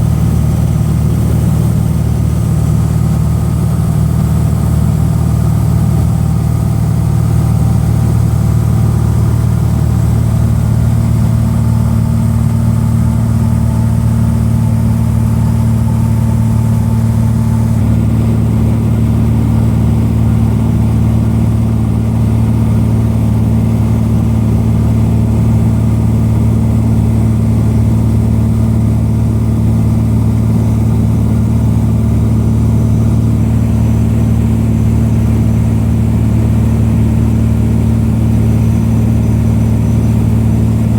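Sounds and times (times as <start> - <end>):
propeller aircraft engine drone: 0.0 - 40.9.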